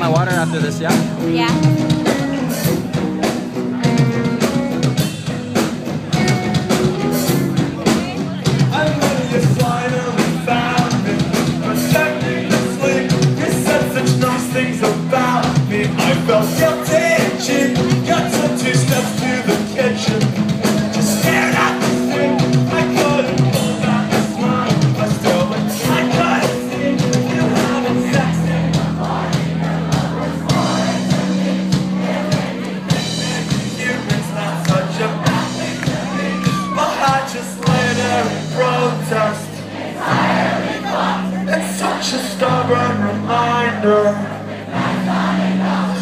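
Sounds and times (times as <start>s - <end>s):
bass guitar: 0.0s - 46.0s
drums: 0.0s - 46.0s
electric guitars: 0.0s - 46.0s.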